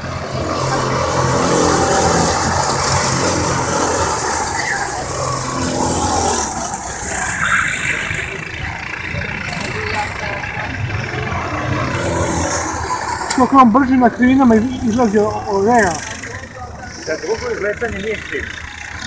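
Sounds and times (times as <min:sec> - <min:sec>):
racing kart engines: 0:00.0 - 0:19.0.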